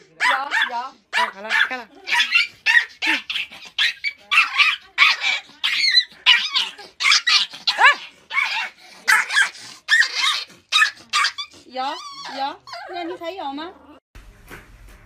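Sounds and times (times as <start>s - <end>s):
puppy yapping and yelping: 0.2s - 13.2s.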